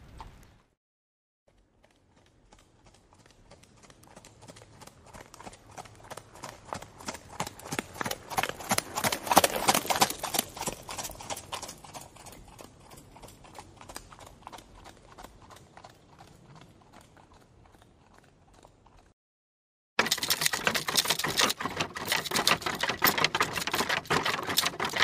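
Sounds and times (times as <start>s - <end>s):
horse hoofbeats clip-clopping: 1.5s - 19.1s, 20.0s - 25.0s.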